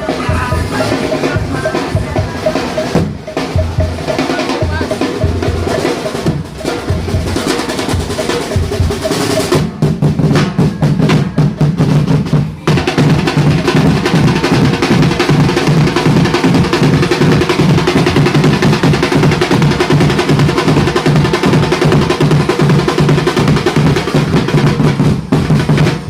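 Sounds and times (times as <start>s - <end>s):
drumline playing marching beat: 0.0s - 26.0s.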